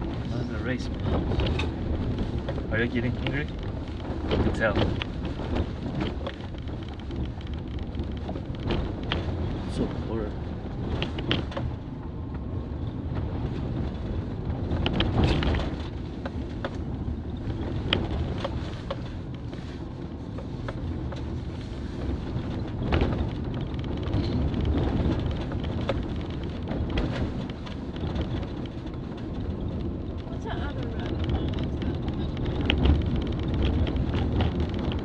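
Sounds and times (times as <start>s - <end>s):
tyres rumbling on dirt road: 0.0s - 35.0s.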